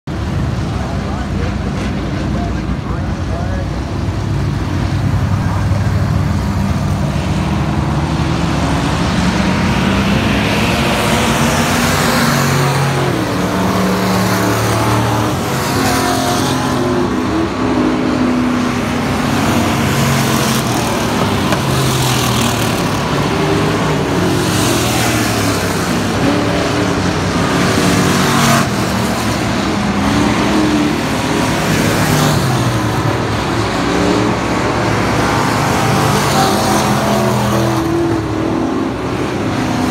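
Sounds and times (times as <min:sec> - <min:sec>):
race car engines passing by: 0:00.1 - 0:39.9.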